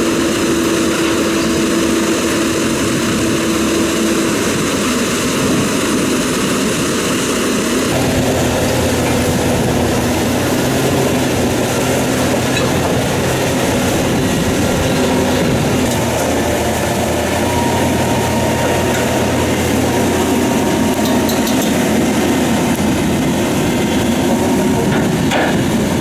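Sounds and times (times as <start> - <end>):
heavy machinery running: 0.0 - 26.0.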